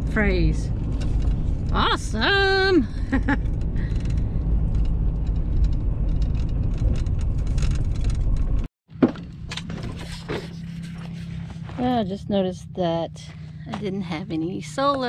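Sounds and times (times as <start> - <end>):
truck driving on dirt road: 0.0 - 15.0.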